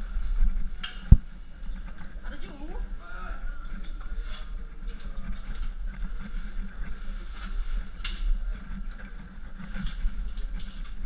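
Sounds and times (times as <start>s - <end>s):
camera jostling rumble: 0.0s - 2.9s, 3.7s - 11.0s.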